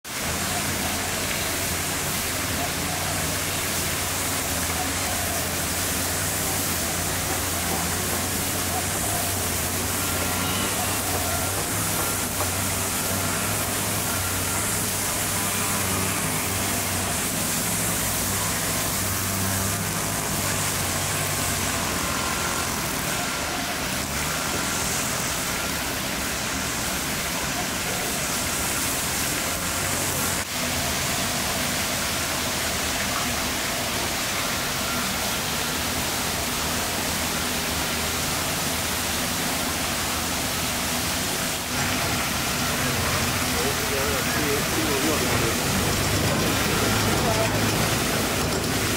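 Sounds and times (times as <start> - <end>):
fountain spray splashing on water: 0.0 - 48.9.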